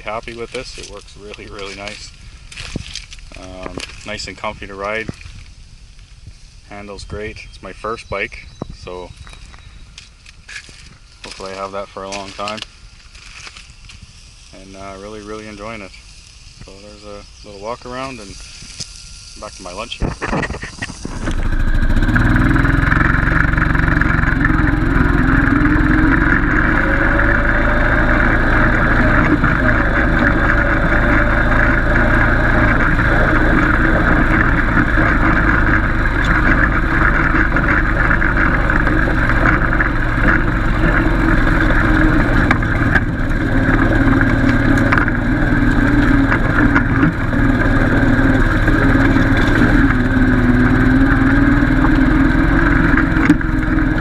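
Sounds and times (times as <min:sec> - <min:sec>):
atv engine running: 0:00.0 - 0:07.8, 0:09.0 - 0:13.9, 0:14.5 - 0:54.0.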